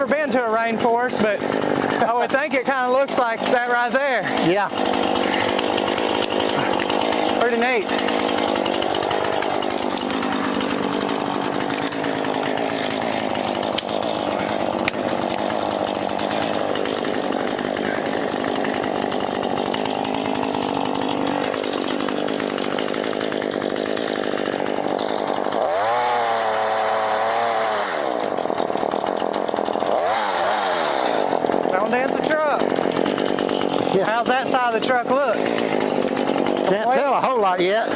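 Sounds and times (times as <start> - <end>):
chainsaw cutting: 0.0 - 37.9.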